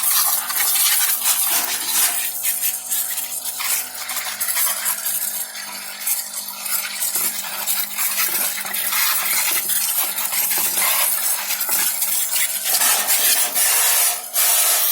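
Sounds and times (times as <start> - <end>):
water sloshing in tub: 0.0 - 13.7
washing machine running: 0.0 - 14.9.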